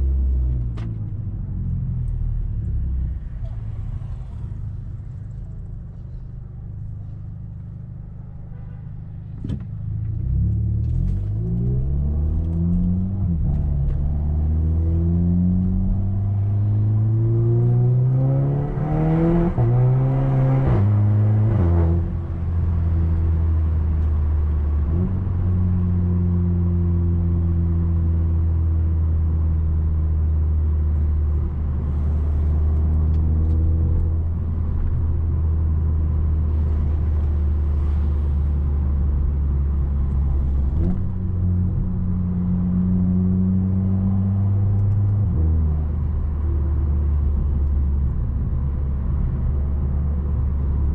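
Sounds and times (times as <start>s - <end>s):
car engine accelerating and shifting: 9.4s - 50.9s.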